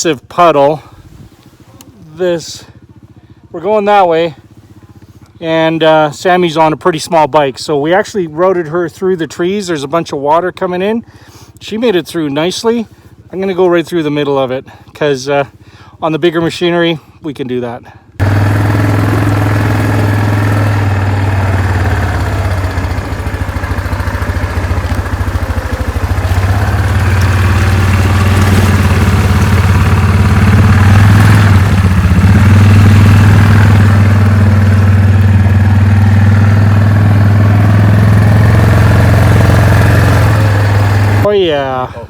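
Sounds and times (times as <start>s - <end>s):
off-road motorbike engine: 0.0s - 42.0s.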